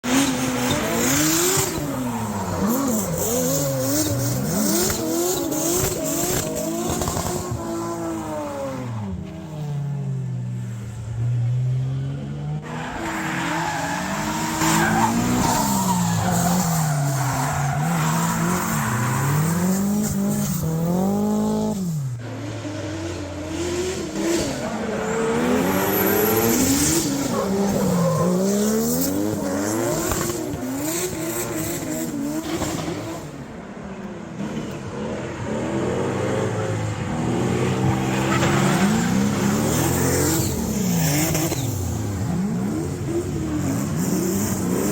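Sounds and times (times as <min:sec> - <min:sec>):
tyres squealing and skidding: 0:00.0 - 0:09.0, 0:12.6 - 0:21.4, 0:22.3 - 0:33.3, 0:36.4 - 0:44.9
car engines revving: 0:00.0 - 0:44.9.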